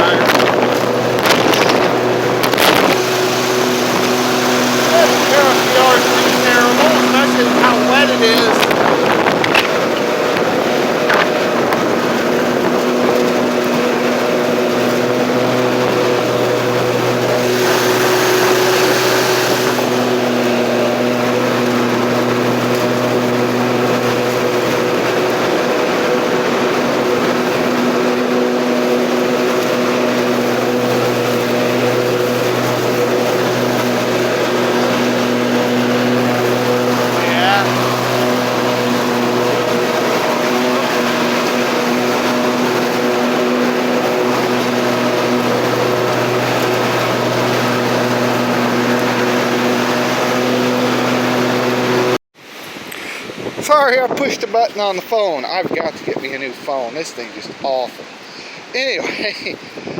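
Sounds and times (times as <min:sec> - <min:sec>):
lawn mower running: 0:00.0 - 0:59.9.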